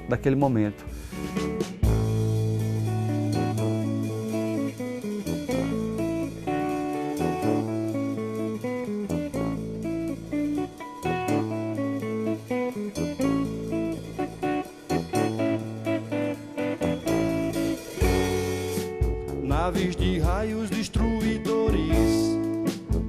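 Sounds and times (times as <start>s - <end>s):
low bass notes: 0.9s - 12.3s, 13.0s - 23.0s
plucked guitar notes: 1.2s - 23.0s.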